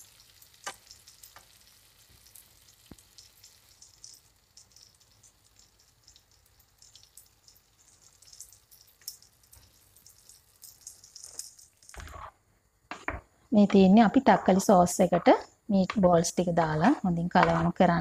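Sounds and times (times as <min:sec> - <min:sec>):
oil sizzling in pans: 0:00.0 - 0:18.0.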